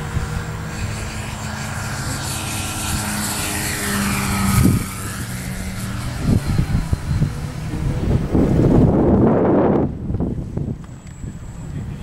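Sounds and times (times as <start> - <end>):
model plane motor and propeller: 0.0 - 12.0.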